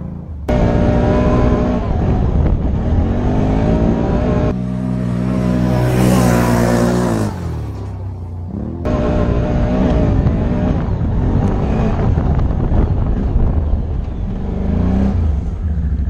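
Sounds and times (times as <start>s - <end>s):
quad engine revving: 0.0s - 16.0s
quad passing by: 0.0s - 16.0s.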